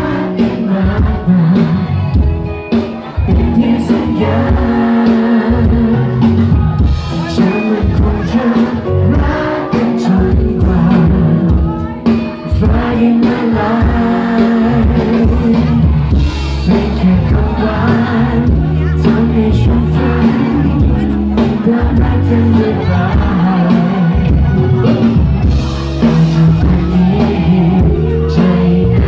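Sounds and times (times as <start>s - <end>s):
live pop-rock band: 0.0s - 29.0s.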